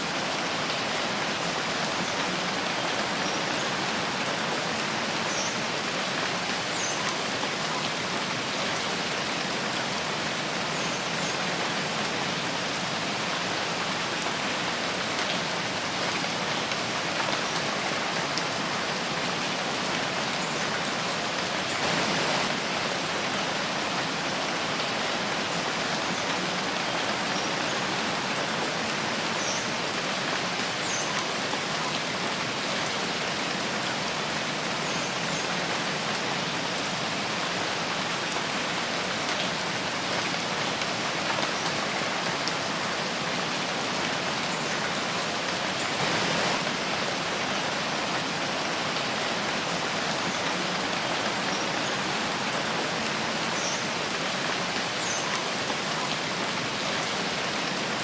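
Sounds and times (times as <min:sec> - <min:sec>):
steady rain in a forest: 0:00.0 - 0:58.0.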